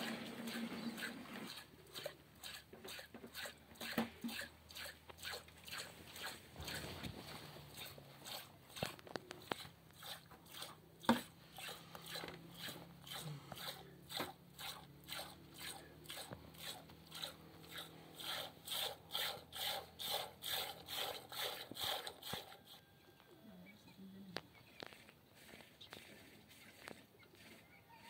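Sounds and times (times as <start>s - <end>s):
milk squirting into a bowl: 0.0s - 22.8s.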